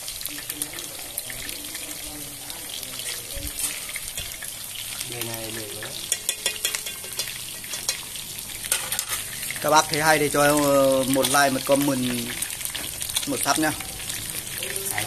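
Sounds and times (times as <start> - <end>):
fish sizzling in hot oil: 0.0 - 15.0
metal utensils scraping a pan: 0.0 - 15.0.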